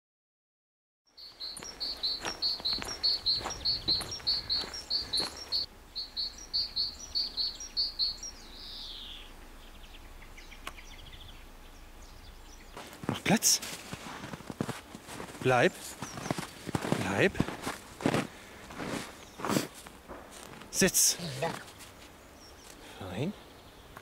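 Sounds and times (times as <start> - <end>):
songbird singing: 1.1 - 24.0.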